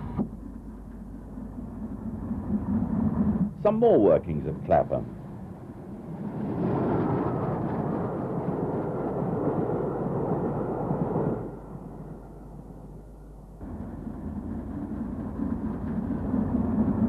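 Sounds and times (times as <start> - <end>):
steam train passing: 0.7 - 17.0.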